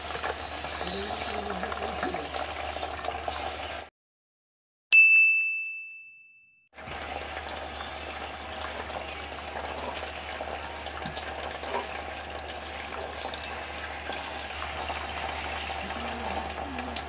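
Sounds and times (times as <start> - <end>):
water trickling and splashing: 0.0 - 3.9, 6.8 - 17.0.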